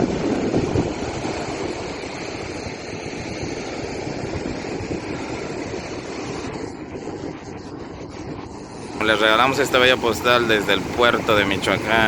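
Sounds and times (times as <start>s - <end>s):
sea waves washing: 0.0s - 12.0s.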